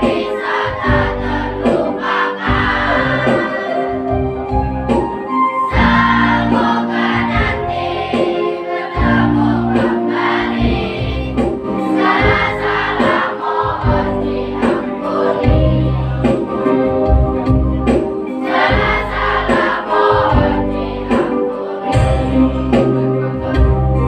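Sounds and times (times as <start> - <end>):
children's choir singing: 0.0 - 4.2, 5.6 - 17.2, 18.3 - 24.0.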